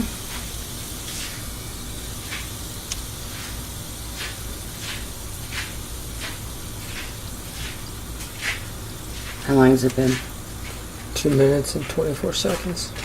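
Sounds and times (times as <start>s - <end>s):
bath bomb fizzing in water: 0.0s - 12.2s
room fan humming: 0.0s - 13.0s.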